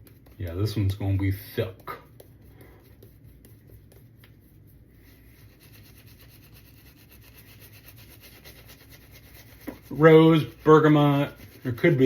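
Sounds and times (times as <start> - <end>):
shaving brush swishing in soap: 0.0 - 12.0.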